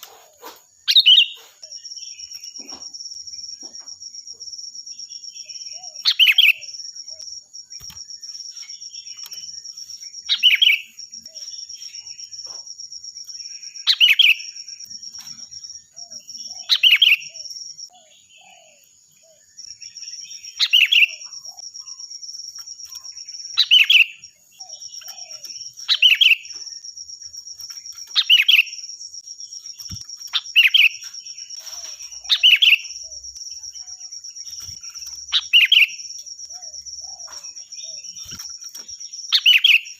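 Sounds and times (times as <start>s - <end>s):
bulbul singing clear phrases: 0.0s - 39.9s.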